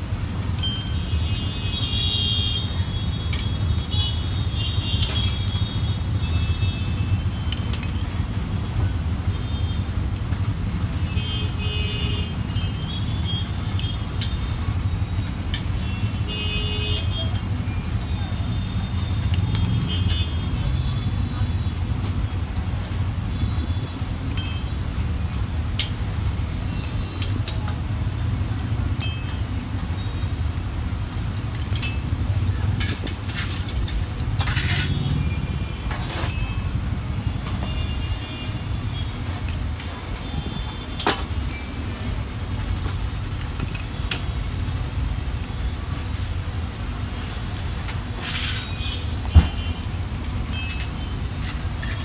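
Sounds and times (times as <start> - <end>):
low rumble of street traffic: 0.0 - 52.0.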